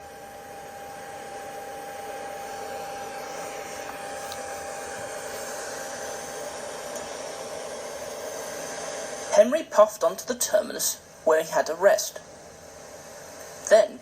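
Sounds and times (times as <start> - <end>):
thin steady whine: 0.0 - 14.0.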